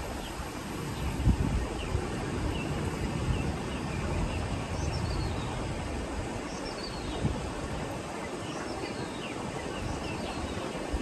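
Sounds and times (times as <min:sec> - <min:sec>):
wind gusting over microphone: 0:00.0 - 0:11.0.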